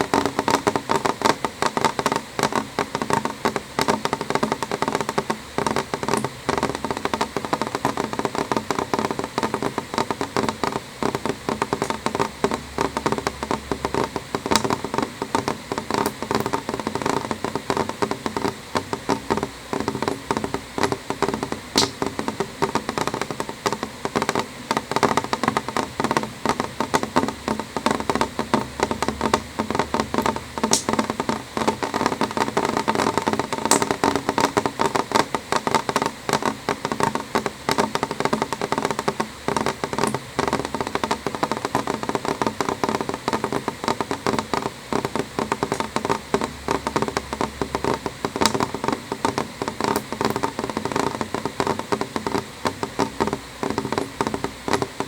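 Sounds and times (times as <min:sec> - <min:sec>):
rain pattering on window: 0:00.0 - 0:55.0.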